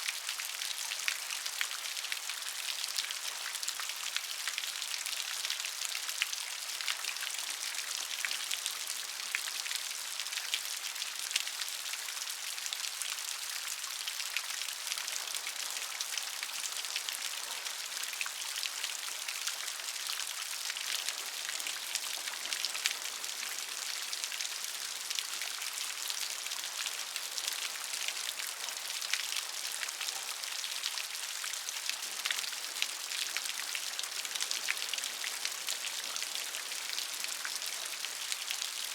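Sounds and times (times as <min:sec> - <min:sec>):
steady gentle rain: 0:00.0 - 0:38.9.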